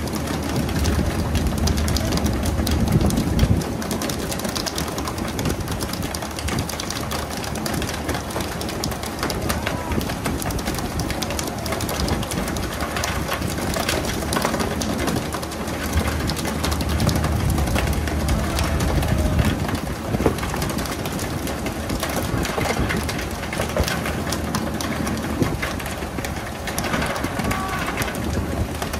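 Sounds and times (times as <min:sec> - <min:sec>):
low engine drone: 0:00.0 - 0:28.9.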